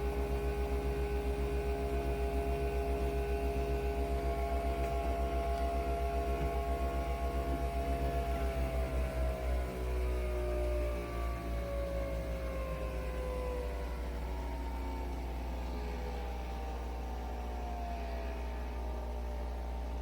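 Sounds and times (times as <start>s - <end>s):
coffee machine motor whine: 0.0s - 20.0s
pump pulsing: 0.0s - 20.0s.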